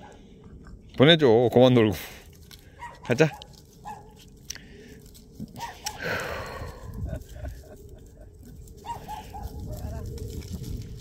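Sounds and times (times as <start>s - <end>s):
rustle: 2.0s - 11.0s.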